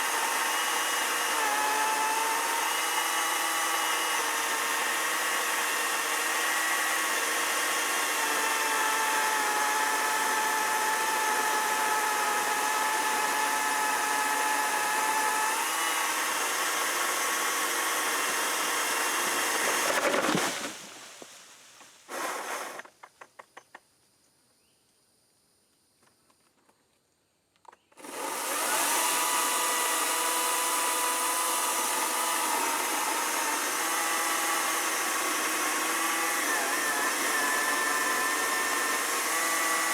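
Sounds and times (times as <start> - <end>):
electric chainsaw cutting wood: 0.0 - 21.1, 22.1 - 22.9, 28.0 - 39.9.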